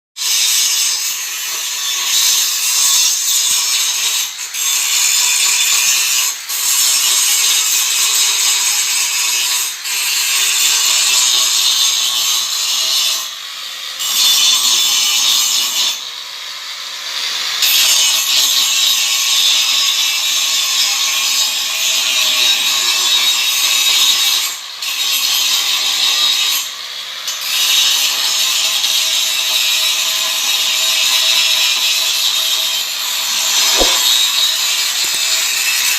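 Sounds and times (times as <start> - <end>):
angle grinder grinding metal: 0.2 - 35.9.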